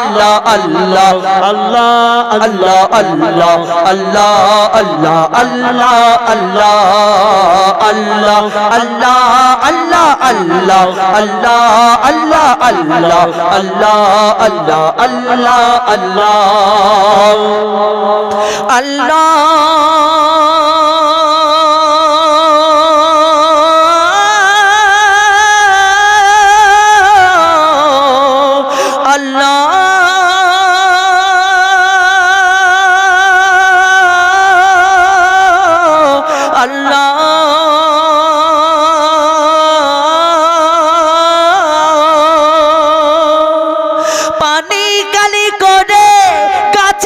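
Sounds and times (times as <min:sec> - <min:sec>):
man singing with vibrato: 0:00.0 - 0:47.0.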